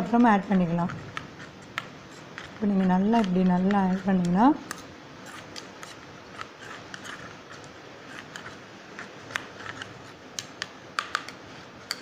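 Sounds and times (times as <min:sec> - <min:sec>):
metal spoon stirring thick paste: 0:00.0 - 0:10.6.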